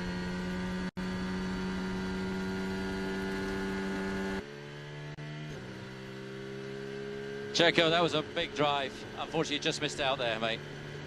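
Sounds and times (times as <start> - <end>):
racing car engine onboard: 0.0 - 11.0.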